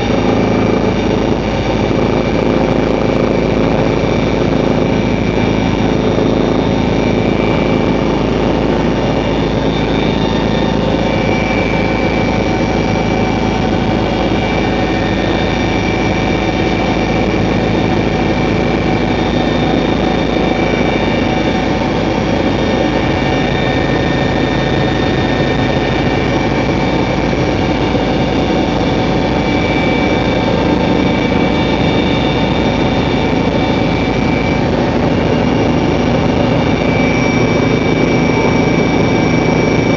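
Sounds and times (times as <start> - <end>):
helicopter engine and rotor drone: 0.0 - 39.9
high whining tones: 0.0 - 39.9.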